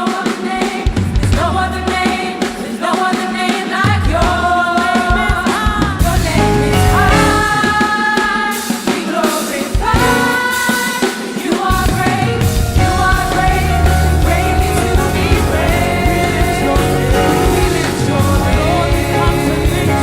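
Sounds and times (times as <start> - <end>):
gospel singers with band: 0.0 - 20.0.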